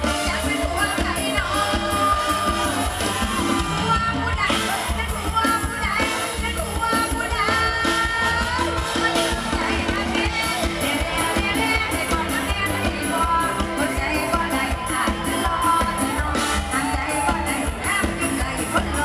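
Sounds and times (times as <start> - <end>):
drum and bass beat: 0.0 - 19.0
woman singing amplified: 0.0 - 19.0.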